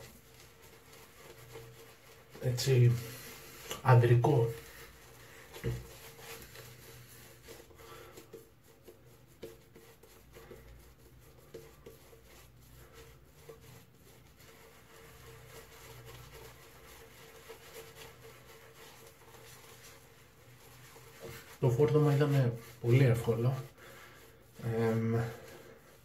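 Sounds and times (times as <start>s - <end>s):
shaving brush lathering: 0.0s - 26.0s.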